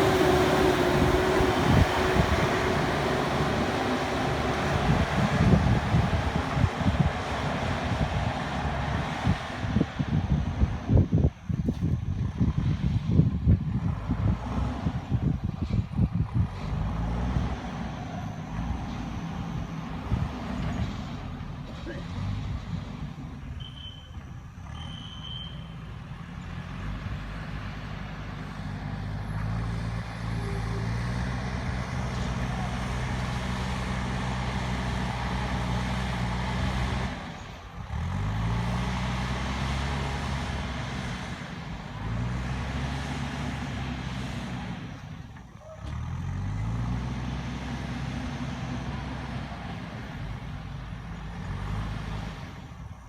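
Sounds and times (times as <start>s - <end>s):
diesel engine revving under load: 0.0s - 53.0s.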